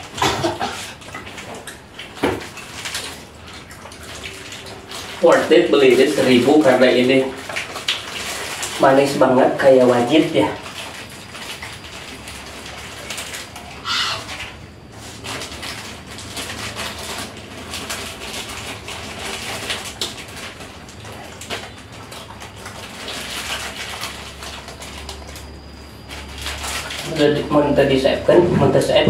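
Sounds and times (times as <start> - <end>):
plastic wrappers crinkling: 0.0 - 29.0.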